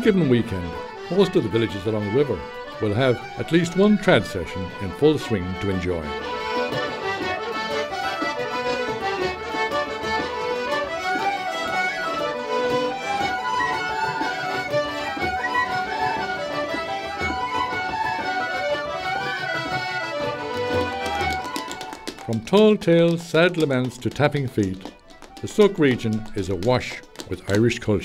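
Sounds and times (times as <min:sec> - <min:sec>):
flute: 0:00.0 - 0:23.2
banjo: 0:00.0 - 0:28.0
button accordions: 0:00.0 - 0:28.0
fiddle: 0:00.0 - 0:28.0.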